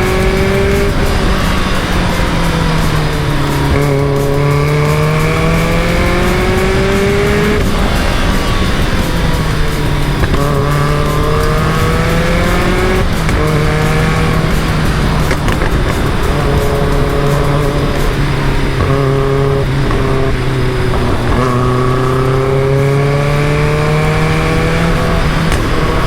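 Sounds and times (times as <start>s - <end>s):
car engine revving hard: 0.0s - 26.0s.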